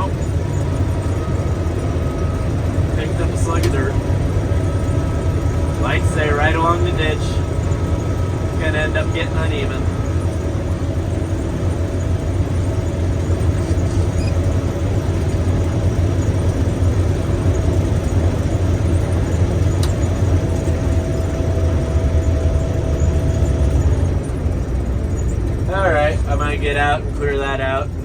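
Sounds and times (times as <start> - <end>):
combine harvester engine hum: 0.0 - 28.0.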